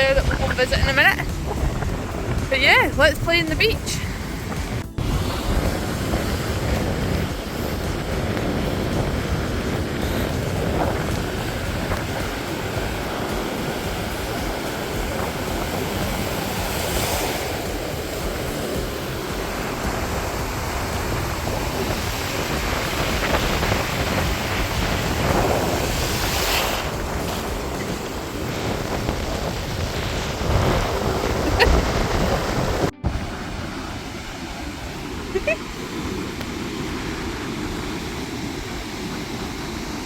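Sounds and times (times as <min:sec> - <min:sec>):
surf breaking on a beach: 0:00.0 - 0:40.0
wind rumbling on microphone: 0:00.0 - 0:40.0.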